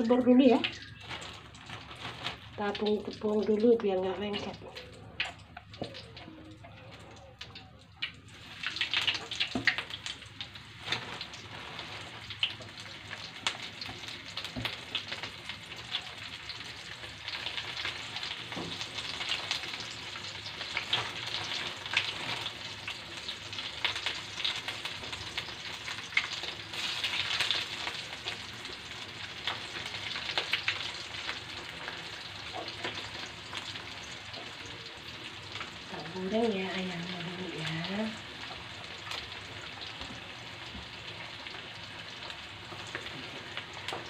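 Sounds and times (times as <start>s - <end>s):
chicken frying in hot oil: 0.0s - 44.0s.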